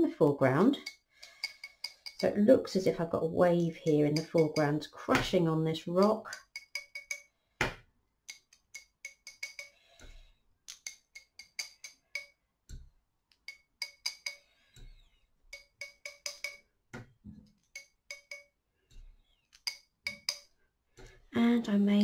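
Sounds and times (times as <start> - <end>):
brush tapping metal knife: 0.5 - 7.4, 8.2 - 21.3.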